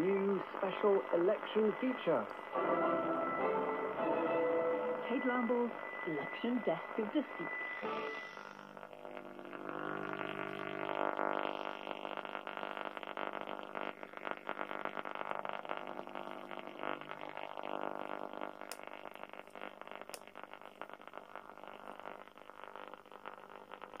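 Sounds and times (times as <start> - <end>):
radio static with buzzing hum: 0.0 - 24.0.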